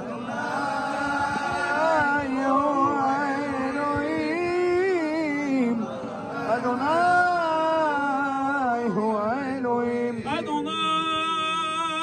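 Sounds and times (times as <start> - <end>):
man singing into a microphone: 0.0 - 12.0
men singing along: 0.0 - 12.0.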